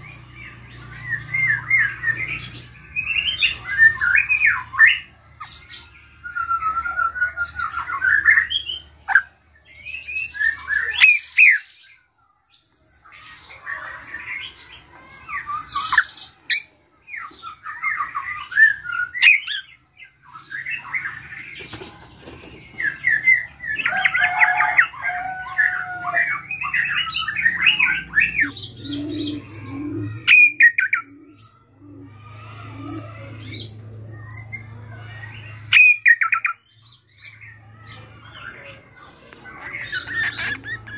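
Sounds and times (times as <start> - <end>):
bird chirps whistles and squawks: 1.0 - 11.8, 15.2 - 21.7, 22.5 - 38.3.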